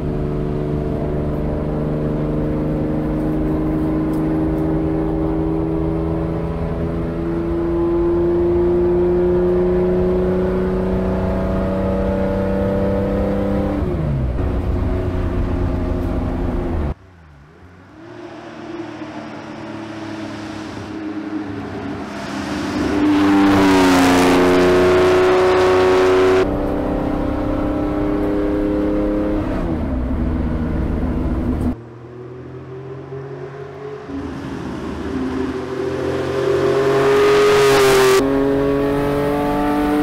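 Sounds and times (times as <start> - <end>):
race car engine accelerating: 0.0 - 40.0.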